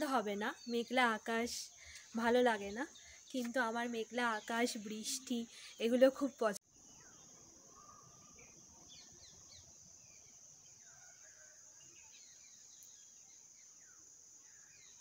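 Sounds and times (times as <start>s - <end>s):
bird chirps: 0.0s - 15.0s
high insect trill: 0.0s - 15.0s.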